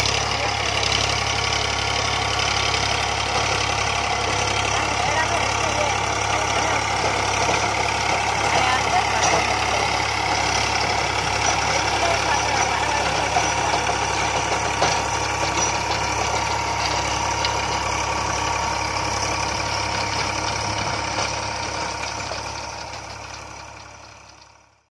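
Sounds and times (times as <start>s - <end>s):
rotavator churning soil: 0.0s - 24.0s
tractor diesel engine under load: 0.0s - 24.9s.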